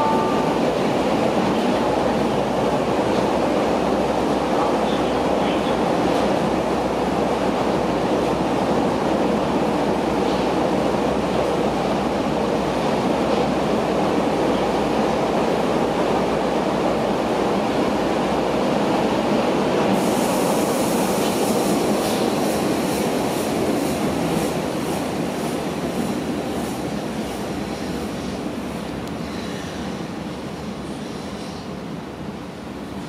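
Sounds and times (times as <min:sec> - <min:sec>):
train wheels rumbling in tunnel: 0:00.0 - 0:33.0.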